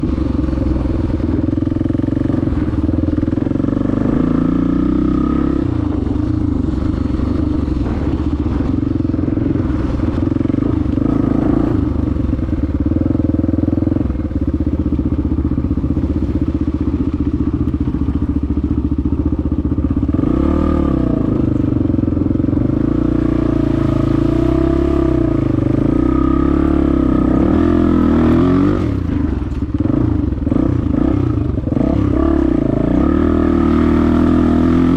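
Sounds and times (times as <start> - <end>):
dirt bike engine running: 0.0 - 34.9.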